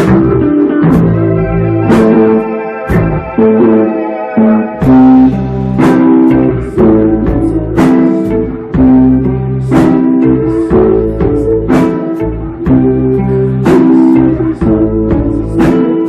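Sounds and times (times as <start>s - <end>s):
distorted electric guitar chords: 0.0s - 16.0s.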